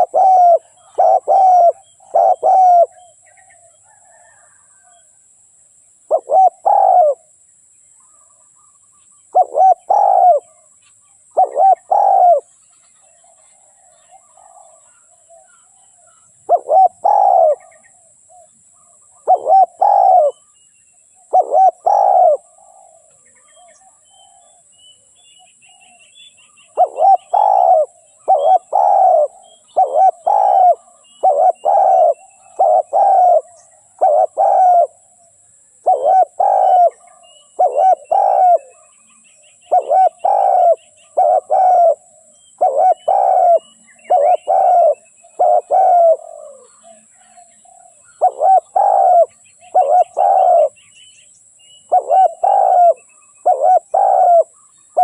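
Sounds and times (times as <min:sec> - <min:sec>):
dove cooing: 0:00.0 - 0:05.0, 0:06.1 - 0:07.3, 0:09.3 - 0:10.7, 0:11.3 - 0:12.5, 0:13.1 - 0:20.5, 0:21.2 - 0:24.7, 0:26.7 - 0:50.8, 0:51.9 - 0:55.0
small birds chirping: 0:00.0 - 0:05.0, 0:05.9 - 0:07.3, 0:07.9 - 0:55.0.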